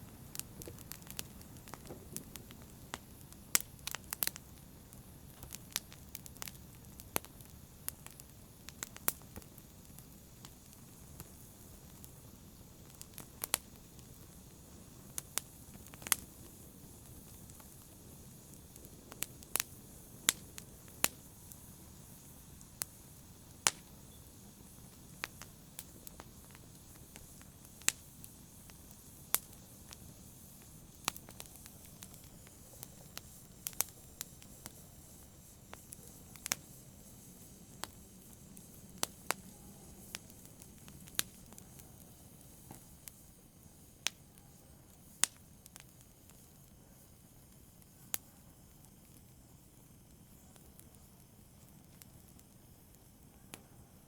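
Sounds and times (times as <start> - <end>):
fire crackles and pops: 0.0 - 54.0
wood fire hissing: 0.0 - 54.0.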